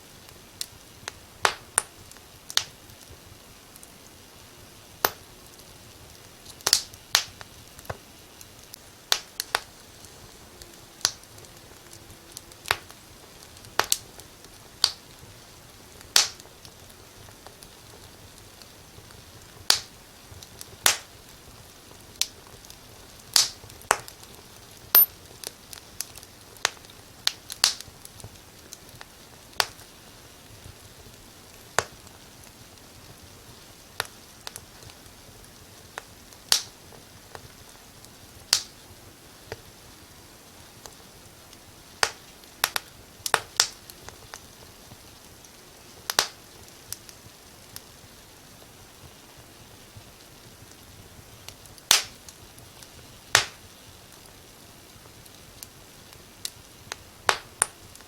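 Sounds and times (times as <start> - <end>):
faint steady hiss: 0.0 - 58.0
wood fire crackling: 0.0 - 58.0.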